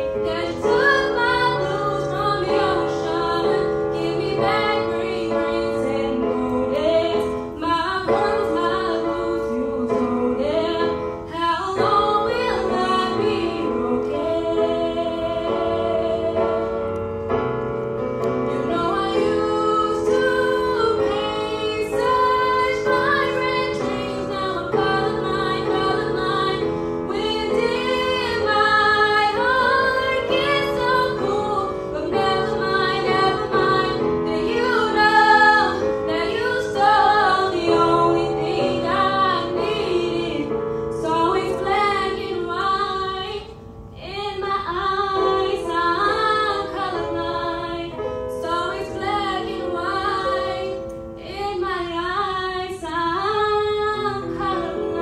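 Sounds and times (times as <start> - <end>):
woman singing into a microphone: 0.0 - 16.6, 18.5 - 55.0
sustained musical accompaniment: 0.0 - 55.0.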